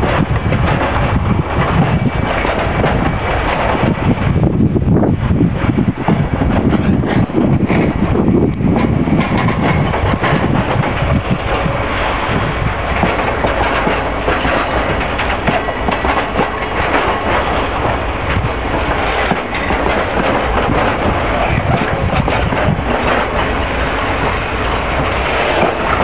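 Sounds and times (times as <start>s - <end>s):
steady rolling rumble: 0.0s - 26.0s
train wheels clacking on rails: 0.0s - 26.0s.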